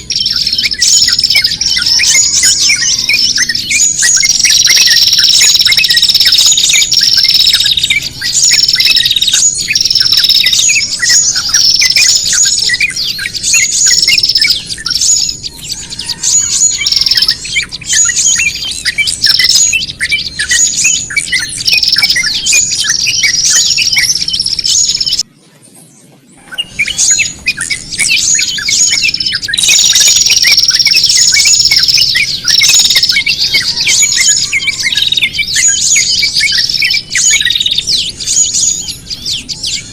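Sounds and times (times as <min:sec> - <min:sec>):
songbirds chirping and squawking: 0:00.0 - 0:39.9.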